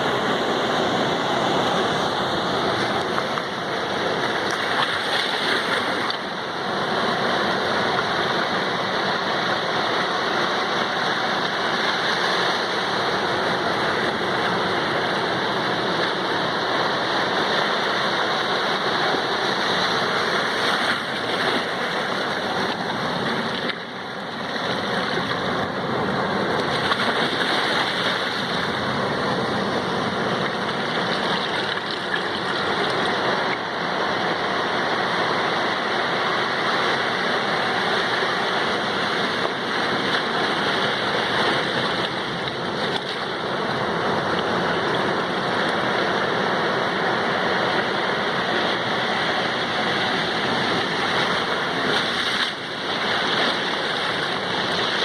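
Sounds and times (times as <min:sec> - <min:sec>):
sea surf washing: 0:00.0 - 0:55.0.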